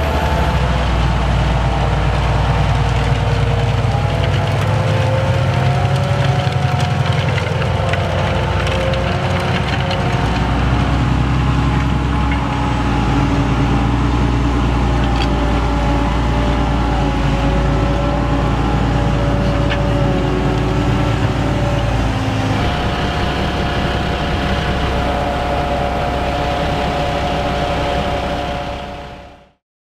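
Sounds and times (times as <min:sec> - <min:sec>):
tractor diesel engine under load: 0:00.0 - 0:29.6.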